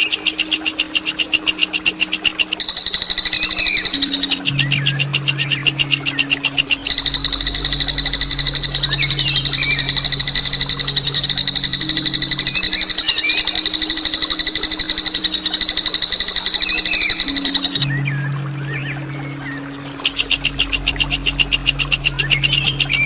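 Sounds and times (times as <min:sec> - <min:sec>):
songbird rolling trill: 0:00.0 - 0:17.9, 0:20.0 - 0:23.0
faint bird chirps: 0:00.0 - 0:23.0.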